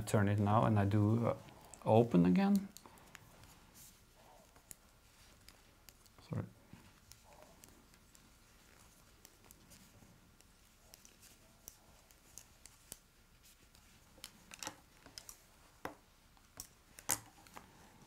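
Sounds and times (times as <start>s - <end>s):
knitting needles clicking: 0.2s - 17.8s.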